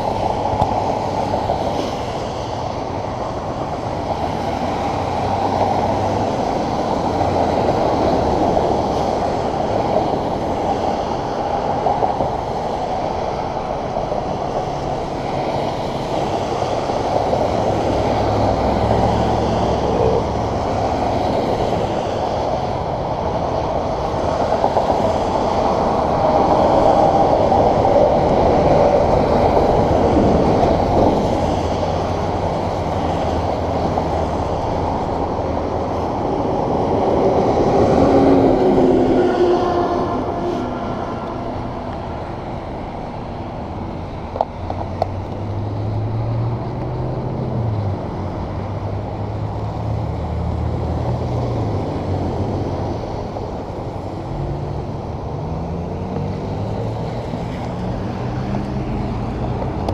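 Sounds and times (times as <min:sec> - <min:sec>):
bicycle tyres on wet road: 0:00.0 - 0:59.9.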